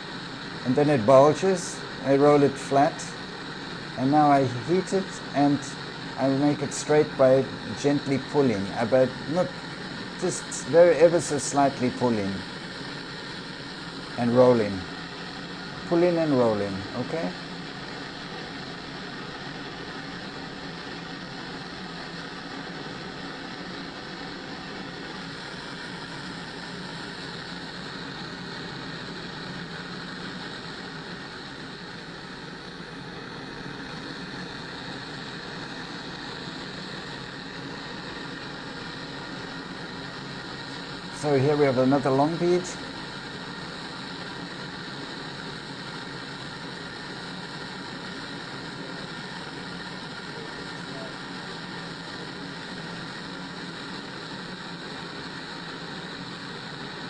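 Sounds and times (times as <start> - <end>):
propane burner rushing: 0.0 - 57.0.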